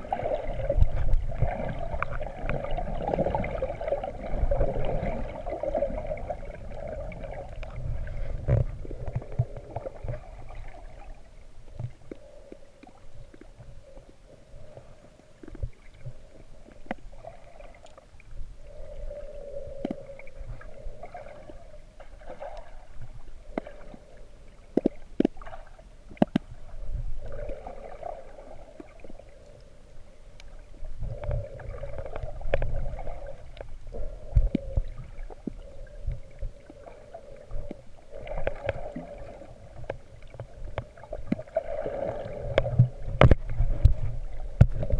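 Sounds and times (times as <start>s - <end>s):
muffled underwater rumble: 0.0s - 44.9s.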